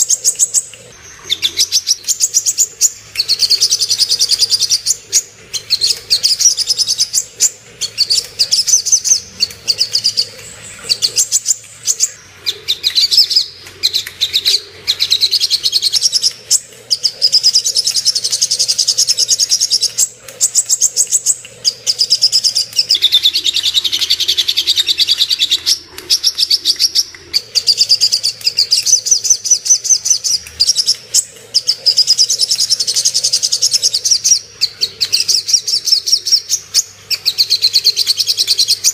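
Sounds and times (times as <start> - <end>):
bird singing rapid high chirps: 0.0 - 38.9.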